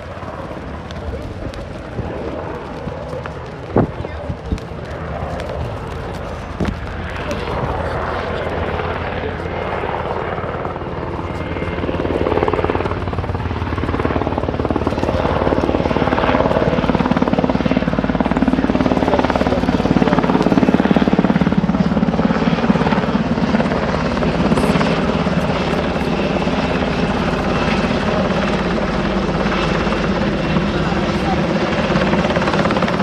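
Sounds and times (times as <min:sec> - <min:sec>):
helicopter rotor beating: 0:00.0 - 0:33.0.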